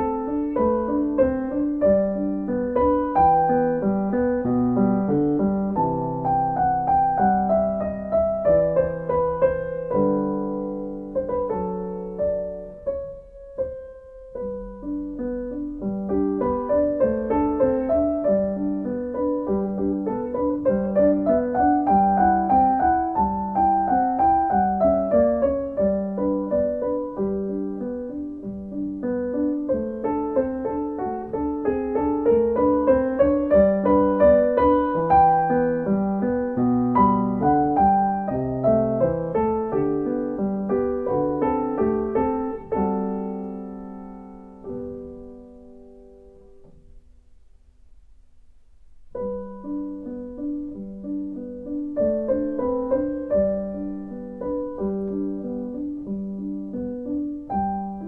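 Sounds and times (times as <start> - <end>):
flowing piano piece: 0.0 - 58.0.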